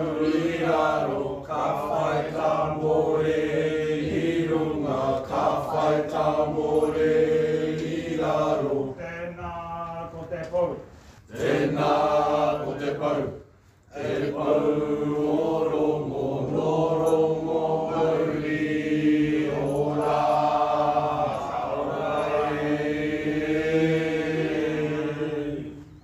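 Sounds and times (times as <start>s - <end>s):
group chanting in unison: 0.0s - 9.4s, 11.3s - 26.0s.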